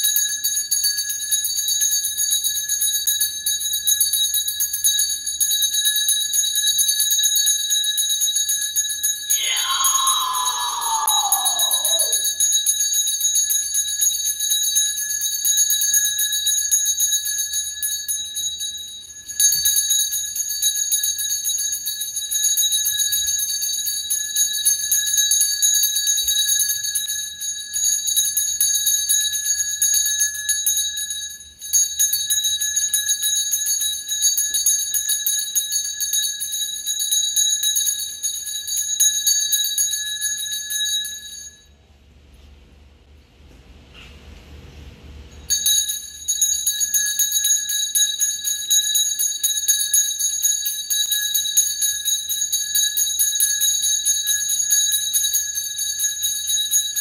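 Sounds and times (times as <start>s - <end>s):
handheld bell ringing: 0.0s - 41.8s, 45.5s - 57.0s.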